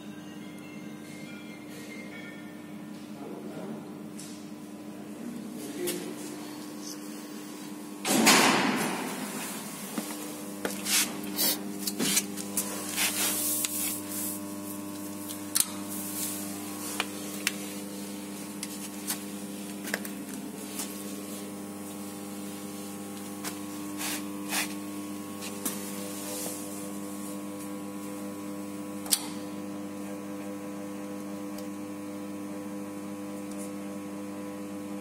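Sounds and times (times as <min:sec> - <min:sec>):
power supply humming: 0:02.7 - 0:35.0.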